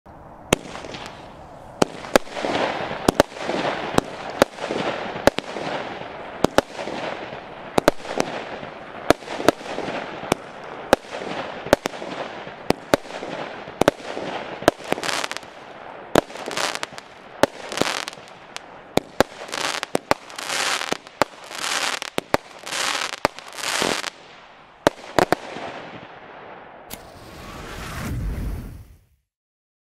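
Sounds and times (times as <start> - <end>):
crackling hissing firework stars: 0.5 - 26.0, 26.9 - 29.2
firework cake firing: 0.5 - 26.1, 26.9 - 29.1.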